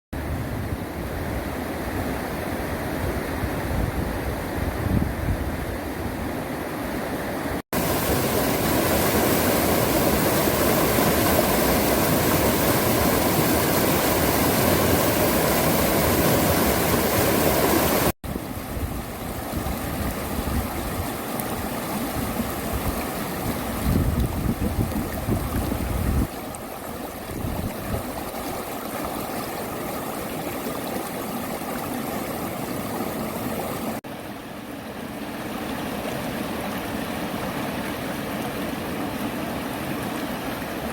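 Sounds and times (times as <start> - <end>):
stream rushing: 0.2 - 40.9.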